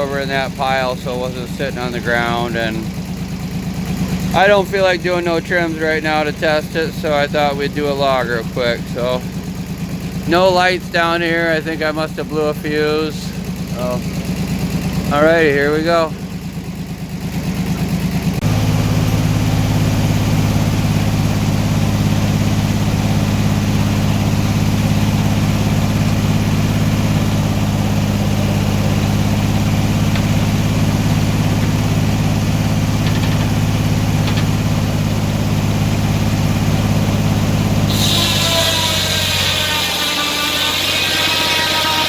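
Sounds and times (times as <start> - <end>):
sawmill engine running: 0.0 - 42.0.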